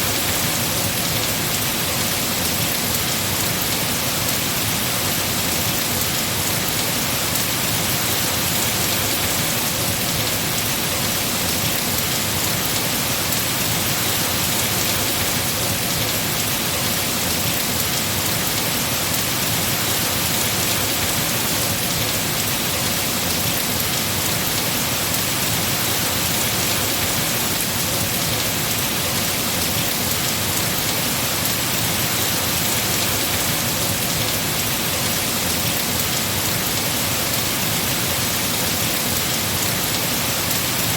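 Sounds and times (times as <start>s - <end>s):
heavy rain on foliage: 0.0s - 40.9s.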